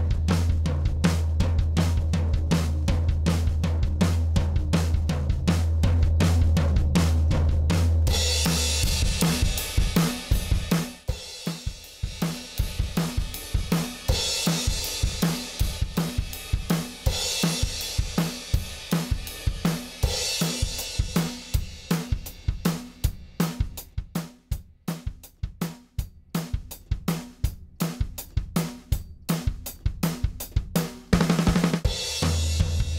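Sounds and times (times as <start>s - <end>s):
drum kit beat: 0.0s - 32.9s.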